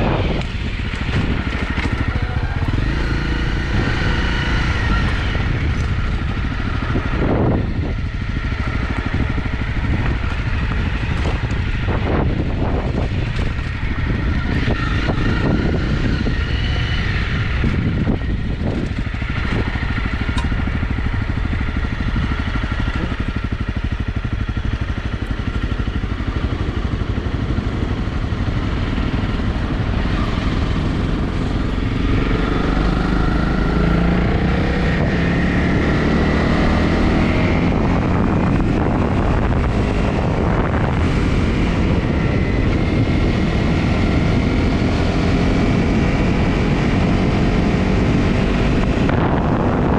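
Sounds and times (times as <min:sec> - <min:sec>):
motorcycle engine revving: 0:00.0 - 0:49.9
wind noise on microphone: 0:00.0 - 0:49.9.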